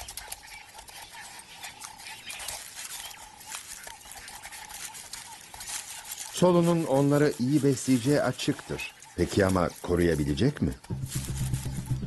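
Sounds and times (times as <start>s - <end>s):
pups scrabbling and feeding: 0.0s - 12.0s.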